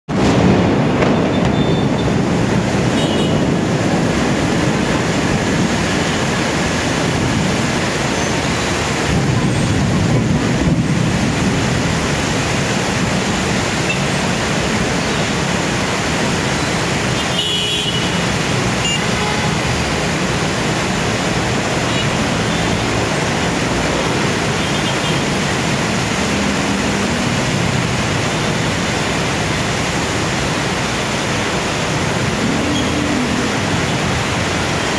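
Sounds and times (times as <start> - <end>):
heavy rain falling: 0.1 - 34.9
traffic on wet highway: 0.1 - 34.9.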